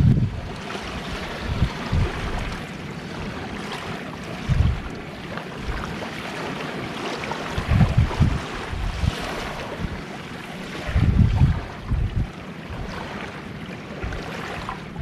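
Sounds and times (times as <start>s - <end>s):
waves washing on a shore: 0.0s - 15.0s
wind buffeting the microphone: 0.0s - 15.0s.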